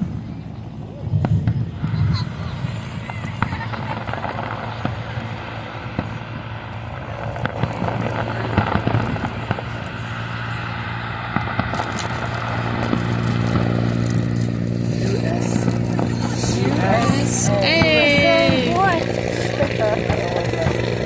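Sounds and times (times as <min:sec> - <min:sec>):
steady low hum: 0:00.0 - 0:21.0
fireworks crackling and popping: 0:01.0 - 0:21.0.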